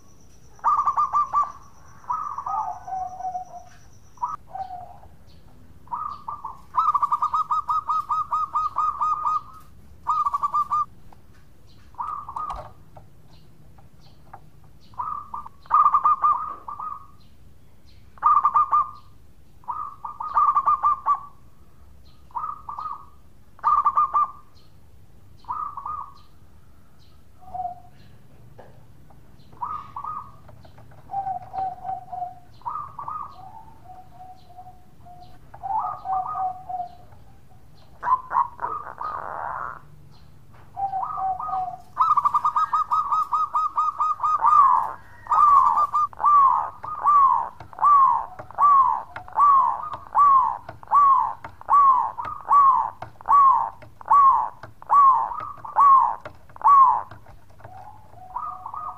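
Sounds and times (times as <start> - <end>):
dove cooing: 0.0 - 10.9, 12.0 - 12.9, 14.9 - 17.2, 18.2 - 21.4, 22.3 - 24.5, 25.4 - 26.2, 27.4 - 28.7, 29.5 - 39.9, 40.7 - 58.9.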